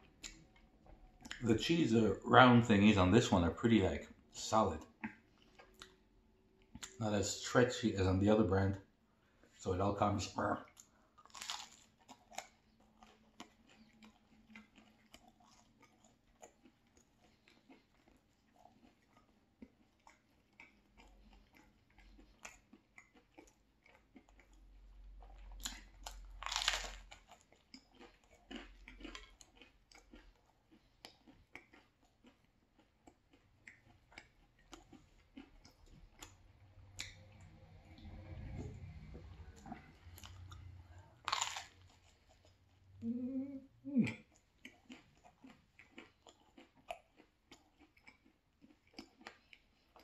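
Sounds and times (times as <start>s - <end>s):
chewing with wet mouth clicks: 0.0s - 1.5s, 4.7s - 7.0s, 10.6s - 42.9s, 44.0s - 50.0s.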